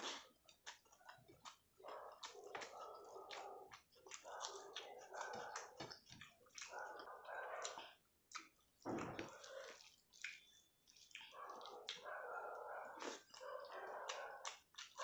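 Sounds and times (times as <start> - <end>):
fingers squelching food: 0.0 - 15.0
wet chewing: 0.0 - 15.0.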